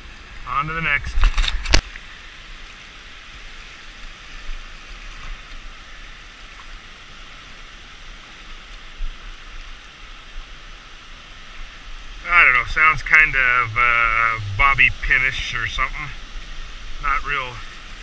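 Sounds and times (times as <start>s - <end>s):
shallow water rushing and lapping: 1.6s - 18.0s.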